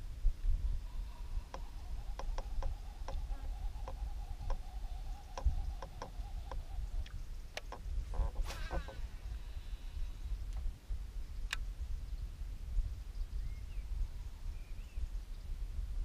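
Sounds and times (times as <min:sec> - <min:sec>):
faint steady whine: 0:00.0 - 0:15.4
wind rumble on microphone: 0:00.0 - 0:16.0.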